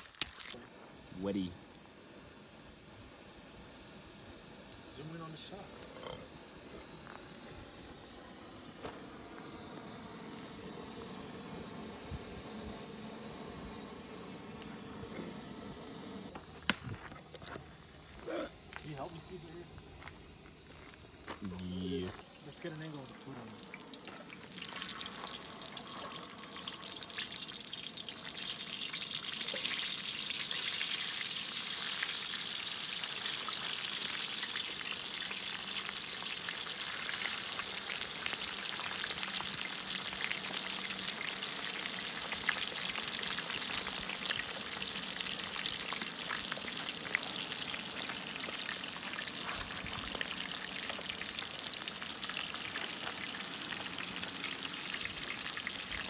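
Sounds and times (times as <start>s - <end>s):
hot oil sizzling and crackling: 0.0s - 56.0s.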